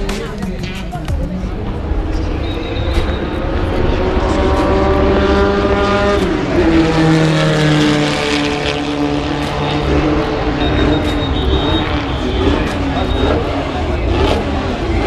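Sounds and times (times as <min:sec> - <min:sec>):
racing car engine: 0:00.0 - 0:15.0.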